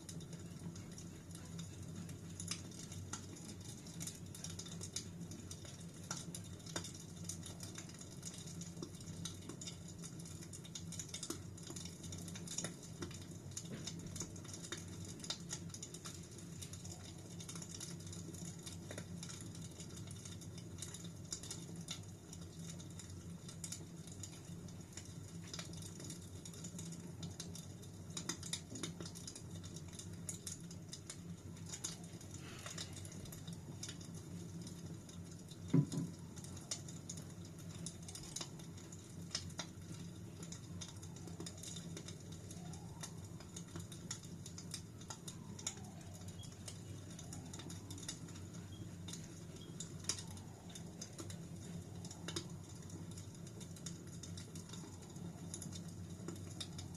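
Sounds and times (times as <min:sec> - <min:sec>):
fire crackles and pops: 0:00.0 - 0:56.9
fire flames rumbling: 0:00.0 - 0:56.9.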